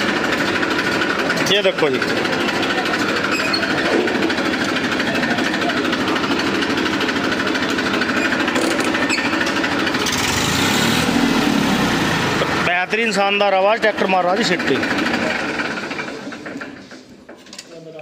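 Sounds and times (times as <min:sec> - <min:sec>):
tractor diesel engine clattering: 0:00.0 - 0:18.0.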